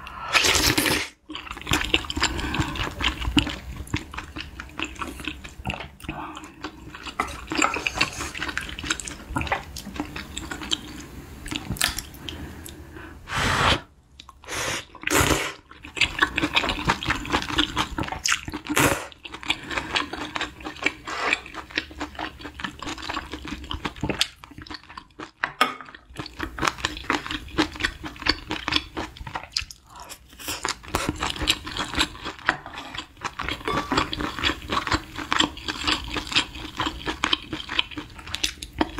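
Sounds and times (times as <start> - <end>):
chewing: 1.3 - 12.8, 15.0 - 25.4, 26.1 - 38.9.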